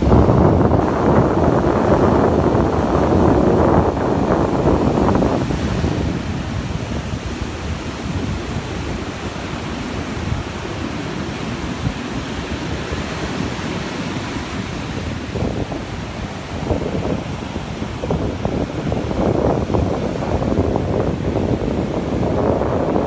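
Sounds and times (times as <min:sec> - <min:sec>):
surf washing up sandy beach: 0:00.0 - 0:23.0
wind buffeting microphone: 0:00.0 - 0:23.0.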